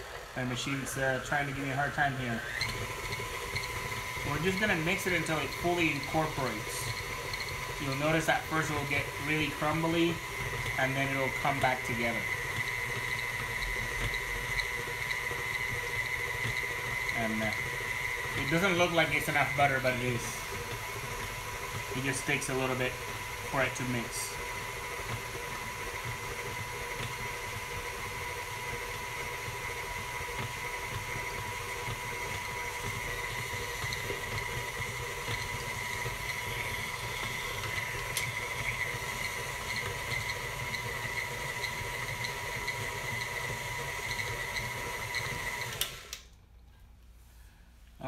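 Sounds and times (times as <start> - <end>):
stand mixer motor whine: 0.0 - 46.3.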